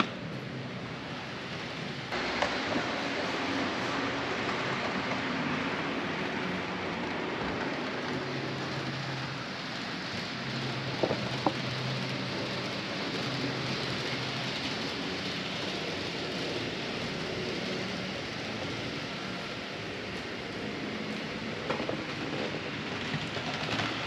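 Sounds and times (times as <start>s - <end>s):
model train wheels rolling on track: 0.0s - 24.0s.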